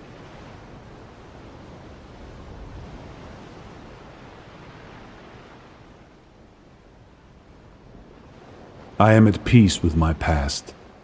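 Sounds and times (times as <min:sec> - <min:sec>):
soft rushing waves or wind: 0:00.0 - 0:11.0.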